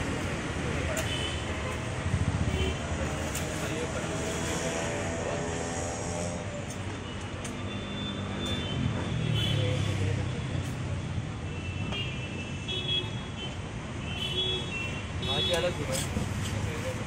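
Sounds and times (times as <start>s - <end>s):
passing vehicles rumble: 0.0s - 12.0s, 14.9s - 17.0s.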